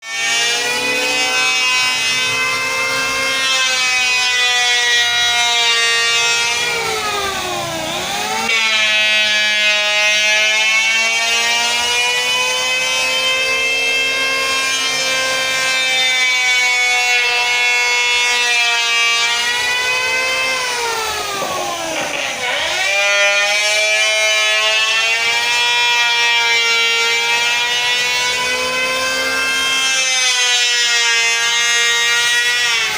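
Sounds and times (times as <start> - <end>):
electric wood planer whining: 0.0 - 32.9.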